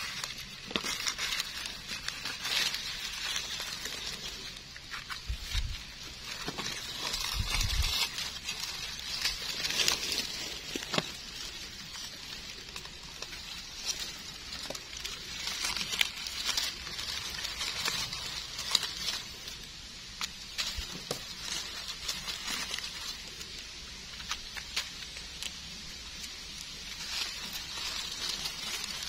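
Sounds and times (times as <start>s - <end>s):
dry leaves crackling and rustling: 0.0s - 29.0s.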